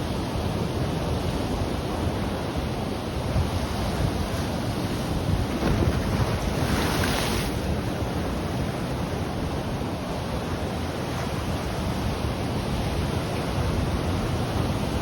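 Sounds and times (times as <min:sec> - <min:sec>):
ocean surf washing ashore: 0:00.0 - 0:15.0
wind buffeting microphone: 0:00.2 - 0:15.0.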